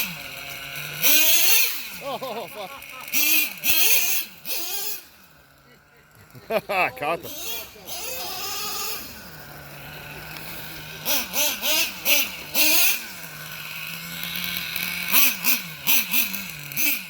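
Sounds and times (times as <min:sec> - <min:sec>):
car engine revving loudly: 0:00.0 - 0:05.3, 0:06.5 - 0:17.0.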